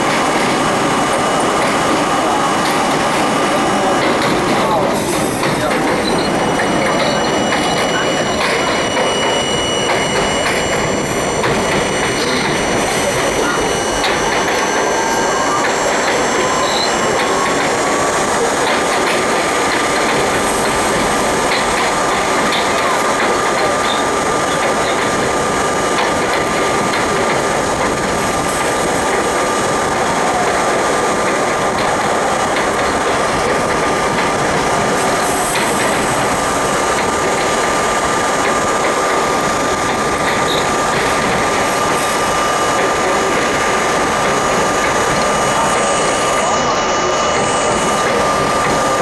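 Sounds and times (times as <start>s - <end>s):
subway train wheels rumbling: 0.0s - 49.0s.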